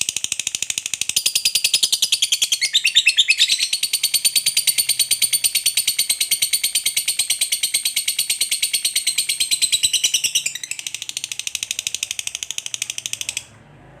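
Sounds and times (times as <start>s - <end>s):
lovebird chattering trill: 0.2s - 13.5s.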